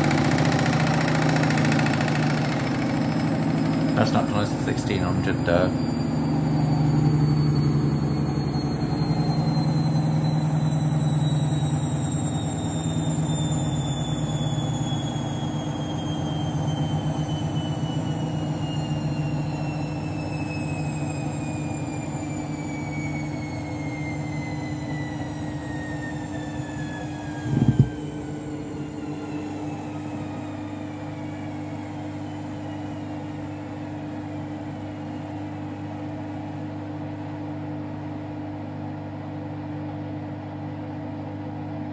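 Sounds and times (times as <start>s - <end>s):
washing machine drum spinning down: 0.0s - 41.9s.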